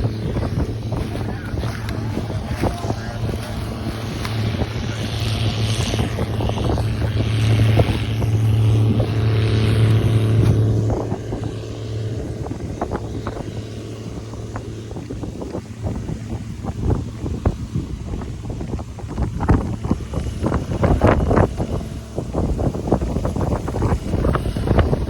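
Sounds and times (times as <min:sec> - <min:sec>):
diesel farm machine running: 0:00.0 - 0:25.0
wind buffeting microphone: 0:00.0 - 0:25.0.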